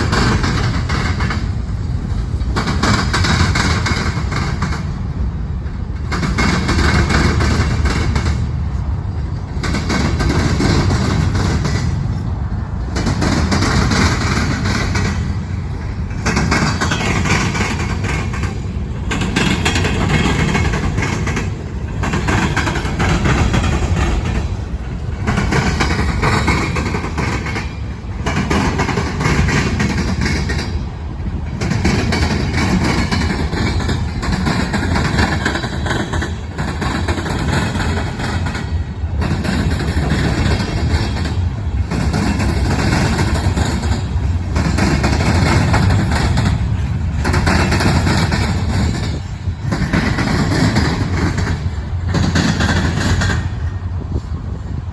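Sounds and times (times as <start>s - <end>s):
freight train rolling past: 0.0s - 54.9s.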